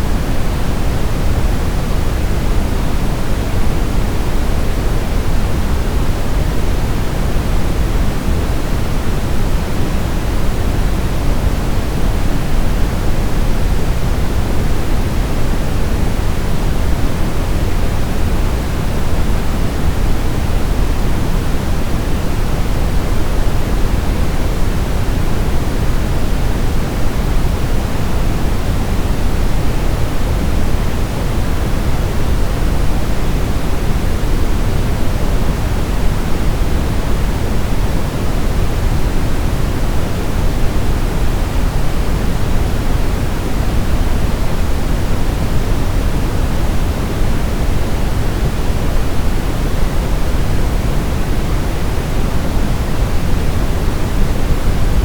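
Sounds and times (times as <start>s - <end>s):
brown noise rumbling hiss: 0.0s - 55.0s.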